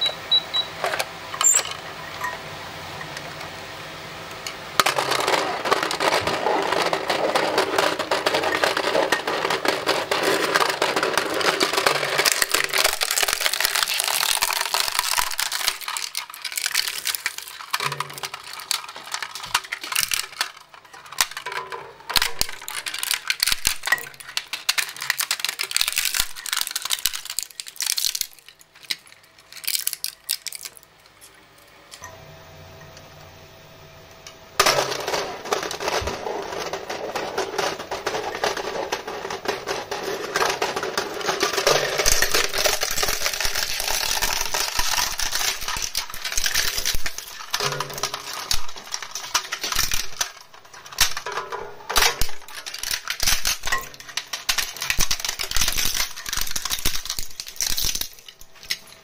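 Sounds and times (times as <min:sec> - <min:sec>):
shredder humming: 0:00.0 - 0:30.4, 0:31.2 - 0:59.0
plastic cracking and snapping: 0:04.8 - 0:21.5, 0:22.1 - 0:30.8, 0:34.6 - 0:59.0.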